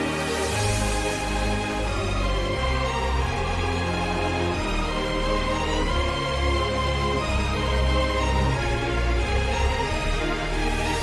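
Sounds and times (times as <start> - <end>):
soundtrack music with sustained notes: 0.0 - 11.0
steady bass line: 0.0 - 11.0.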